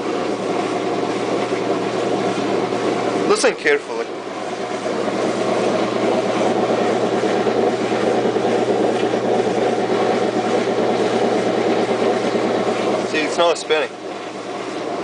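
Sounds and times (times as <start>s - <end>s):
washing machine motor rumbling: 0.0s - 15.0s.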